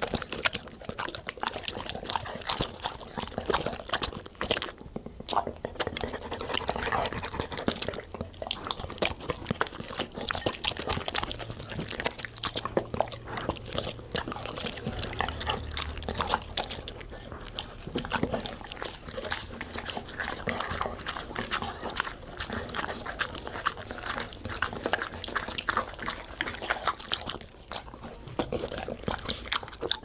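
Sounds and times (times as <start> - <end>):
dog mouth smacks: 0.0 - 30.0
dogs crunching food: 0.0 - 30.0.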